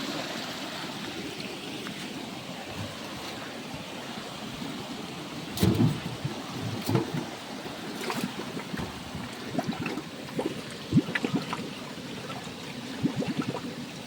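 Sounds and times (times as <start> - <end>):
water trickling in a stream: 0.0 - 14.0.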